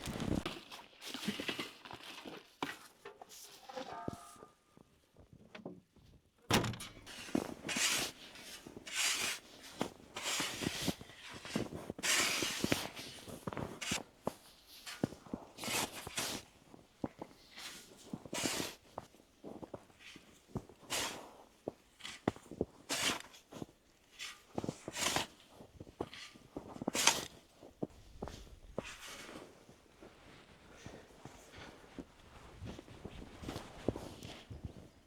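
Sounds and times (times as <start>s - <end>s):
footsteps crunching through snow: 0.0s - 2.4s, 7.1s - 35.0s.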